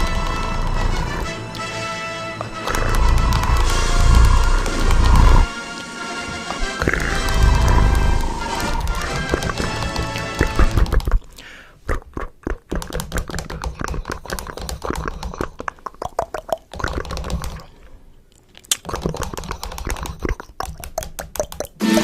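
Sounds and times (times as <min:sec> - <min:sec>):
sharp clicks and taps: 0:02.4 - 0:17.6, 0:18.6 - 0:22.0.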